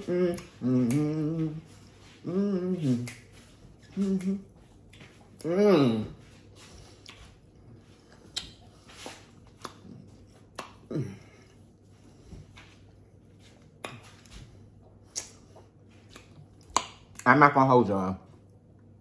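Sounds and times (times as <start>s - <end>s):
person chewing: 0.0s - 17.3s.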